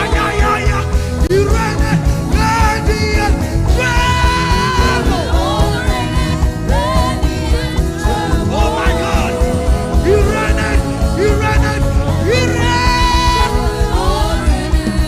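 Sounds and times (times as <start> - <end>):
person singing: 0.0 - 15.0
worship band playing: 0.0 - 15.0.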